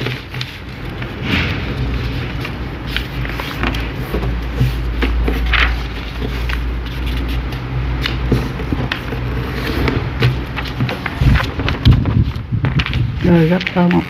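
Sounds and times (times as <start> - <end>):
paper being folded: 0.0 - 14.0.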